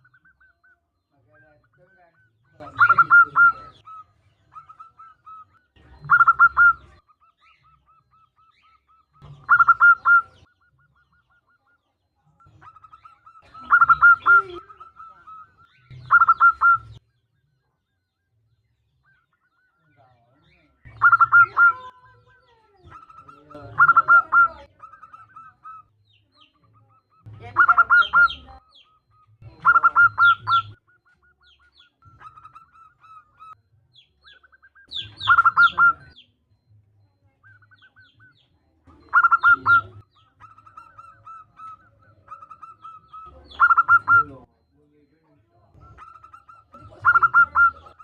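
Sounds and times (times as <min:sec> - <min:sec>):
dove cooing: 0:00.0 - 0:17.0, 0:19.1 - 0:48.0.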